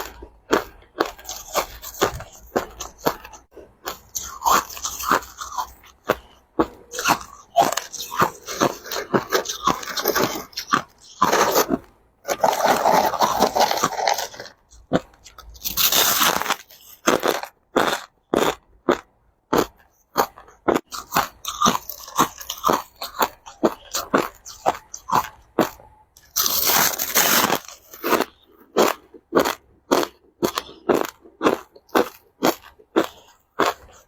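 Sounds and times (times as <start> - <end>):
crushed ice chewing crunches: 0.0 - 34.0.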